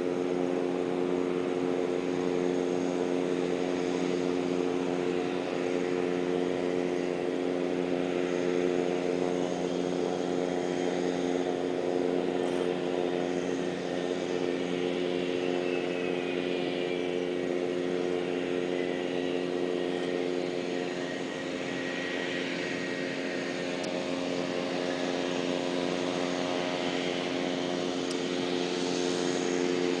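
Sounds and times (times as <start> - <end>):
jet engines humming with whine: 0.0 - 30.0.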